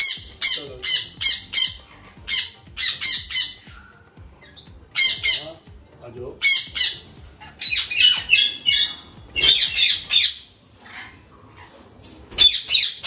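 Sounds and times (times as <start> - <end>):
parrots squawking: 0.0 - 5.7, 6.3 - 13.0.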